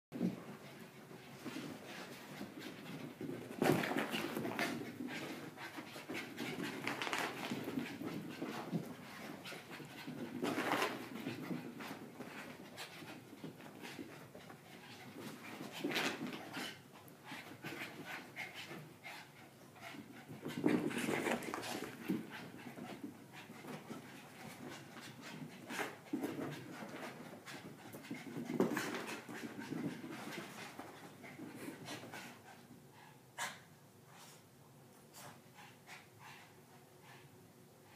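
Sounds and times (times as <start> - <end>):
dogs scuffling: 0.2 - 18.9, 19.8 - 32.6
small dogs panting: 0.2 - 33.7, 35.2 - 37.9.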